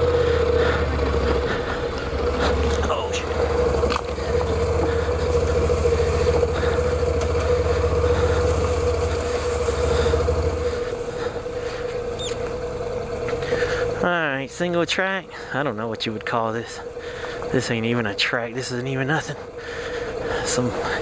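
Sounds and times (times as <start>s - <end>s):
motorcycle engine drone: 0.0s - 21.0s
steady whine: 0.0s - 21.0s.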